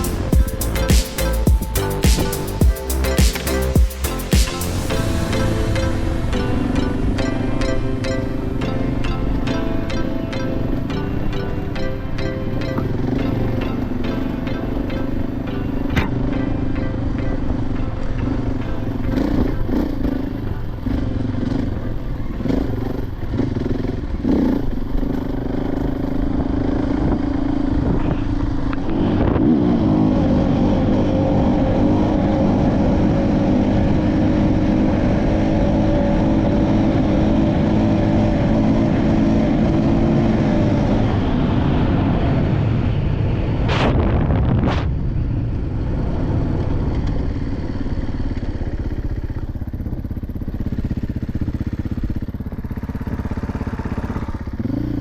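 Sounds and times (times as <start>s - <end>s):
dirt bike engine: 0.0s - 55.0s.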